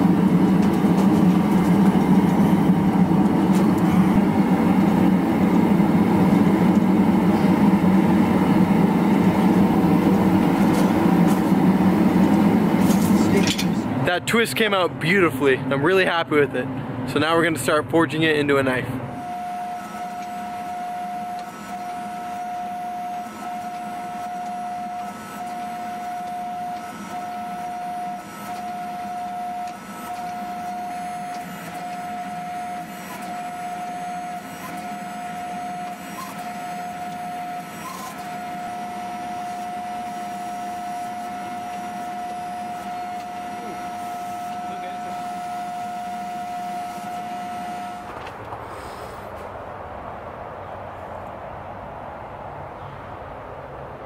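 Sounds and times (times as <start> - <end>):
hydraulic press pump whine: 0.0 - 50.2.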